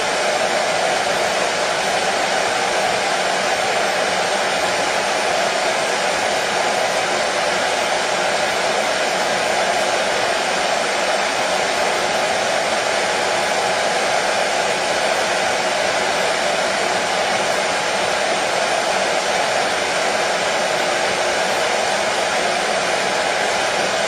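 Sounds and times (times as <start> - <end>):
hair dryer whooshing: 0.0 - 24.0.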